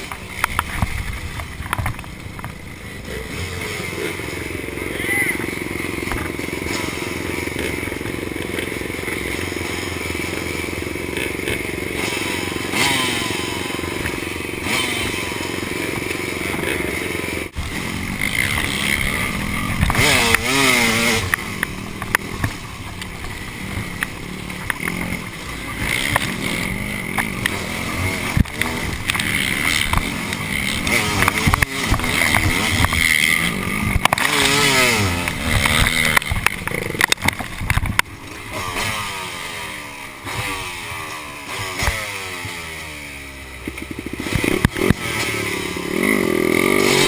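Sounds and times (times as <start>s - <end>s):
dirt bike engine revving: 0.0s - 47.0s
dirt bike engines idling: 0.0s - 47.0s.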